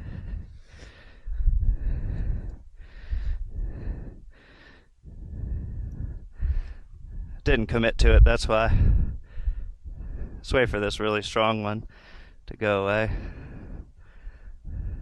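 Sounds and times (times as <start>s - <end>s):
wind rumbling on microphone: 0.0s - 4.4s, 5.0s - 11.3s, 13.1s - 15.0s
heavy breathing: 0.0s - 7.4s, 8.7s - 10.8s, 11.8s - 15.0s.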